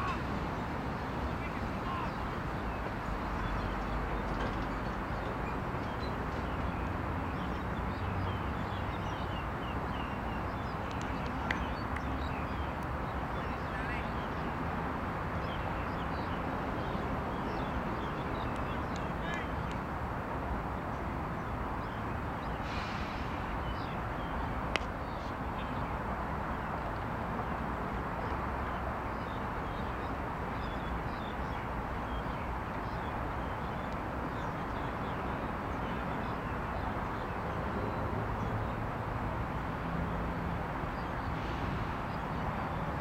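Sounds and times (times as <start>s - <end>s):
outdoor background noise: 0.0s - 43.0s.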